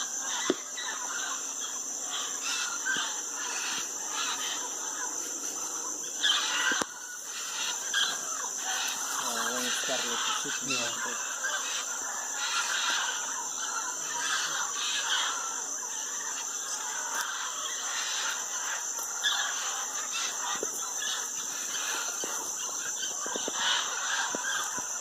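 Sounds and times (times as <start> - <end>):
parrots and macaws squawking: 0.0 - 25.0.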